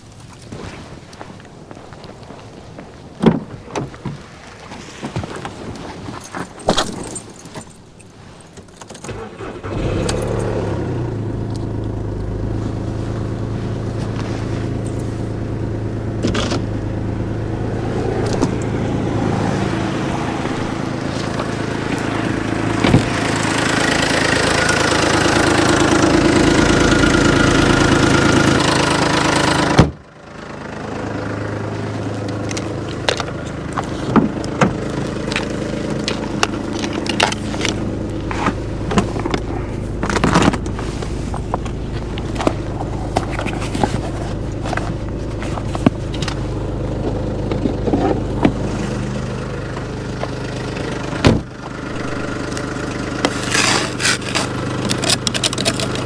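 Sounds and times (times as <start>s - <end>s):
diesel truck engine idling: 9.1s - 56.0s.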